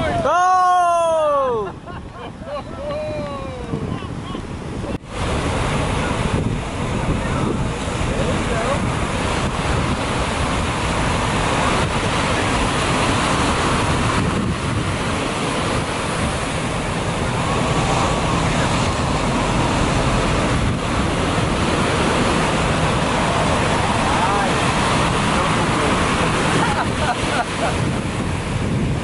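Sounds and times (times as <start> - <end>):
ocean surf breaking: 0.0 - 29.0
wind on microphone: 1.0 - 29.0.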